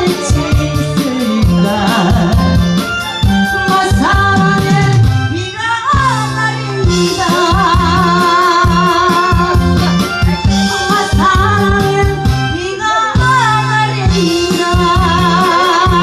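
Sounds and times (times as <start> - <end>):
backing track with drums and bass: 0.0 - 16.0
woman singing into microphone: 0.0 - 16.0.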